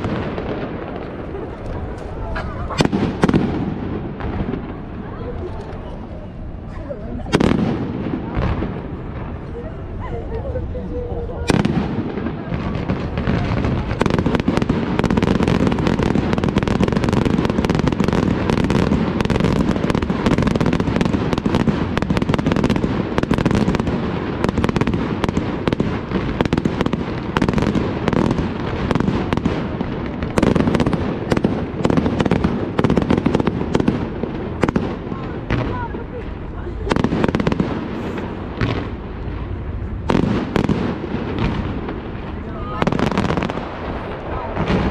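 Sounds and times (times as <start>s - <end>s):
fireworks bangs and crackle: 0.0s - 44.9s.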